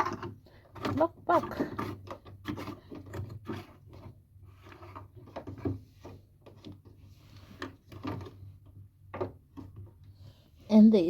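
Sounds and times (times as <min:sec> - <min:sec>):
plastic parts knocking: 0:00.0 - 0:10.1
plastic parts rubbing: 0:00.0 - 0:10.2.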